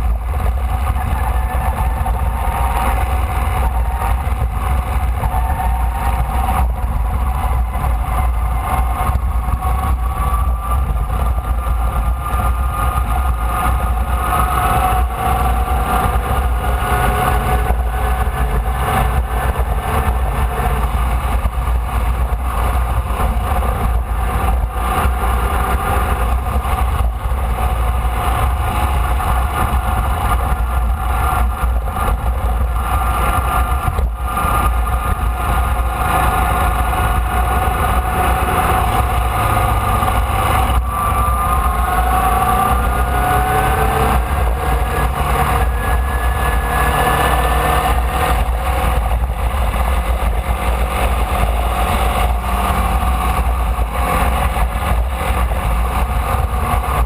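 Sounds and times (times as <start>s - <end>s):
heavy low rumble: 0.0s - 57.0s
race car engine running: 0.0s - 57.0s.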